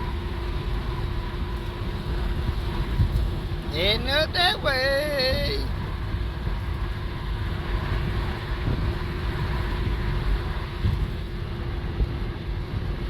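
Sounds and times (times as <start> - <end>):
vehicle engine and tyre rumble: 0.0 - 13.0.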